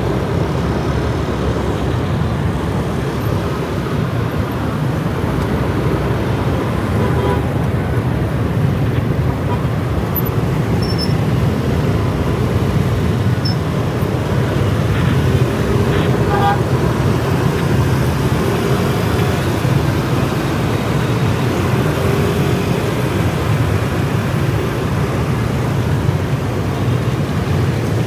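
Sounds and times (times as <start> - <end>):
road noise: 0.0 - 28.0
surrounding traffic hum: 0.0 - 28.0.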